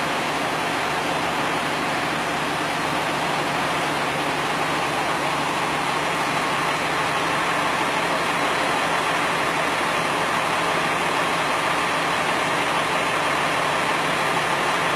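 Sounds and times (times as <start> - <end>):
fire truck engine running: 0.0 - 14.9.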